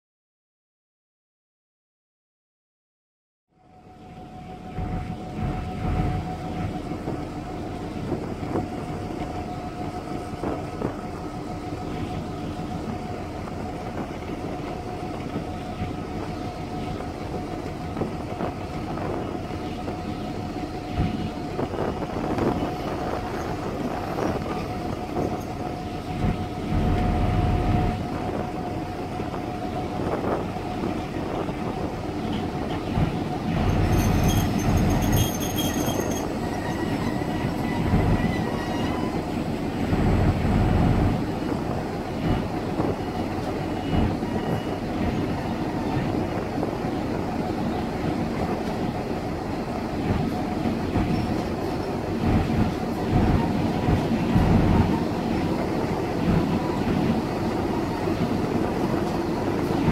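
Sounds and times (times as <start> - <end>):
electric locomotive whine: 3.5 - 59.9
wheel rumble on rails: 4.7 - 59.9.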